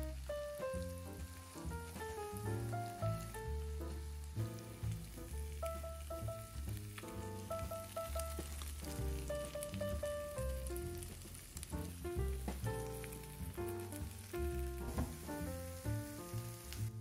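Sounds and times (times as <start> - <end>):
background music: 0.0 - 17.0
bread sizzling in butter: 0.0 - 17.0.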